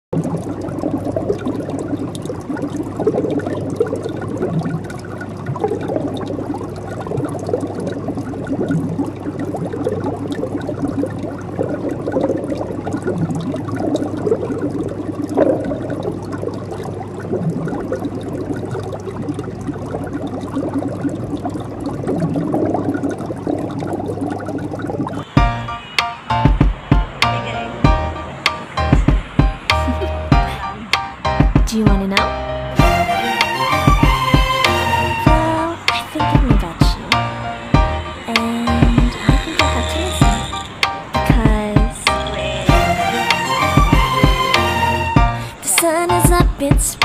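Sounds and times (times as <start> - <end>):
pond water splashing: 0.1 - 31.4, 32.1 - 47.0.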